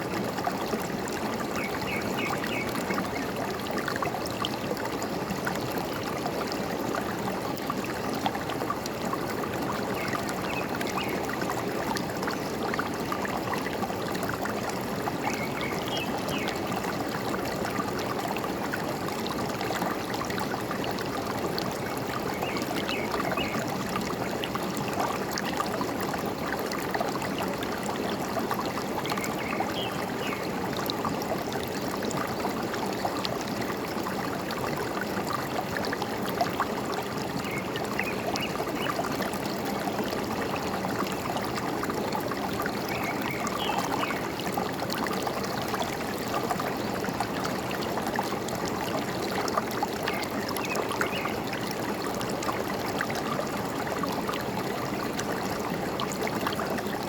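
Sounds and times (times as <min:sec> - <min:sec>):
stream water gurgling: 0:00.0 - 0:57.0.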